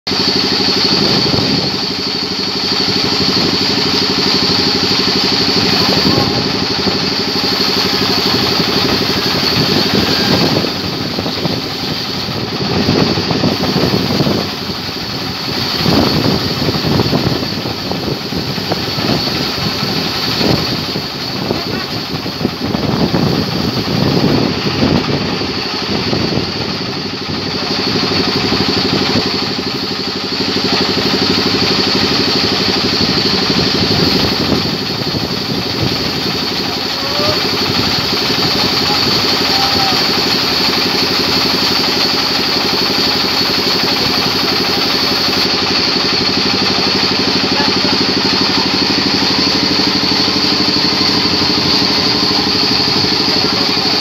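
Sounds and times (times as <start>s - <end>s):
engine running: 0.0s - 54.0s
band saw cutting log: 0.1s - 54.0s
high whine: 0.1s - 54.0s.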